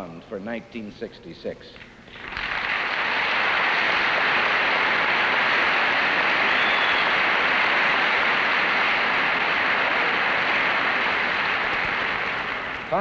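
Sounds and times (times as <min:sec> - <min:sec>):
large audience applauding: 0:02.1 - 0:13.0.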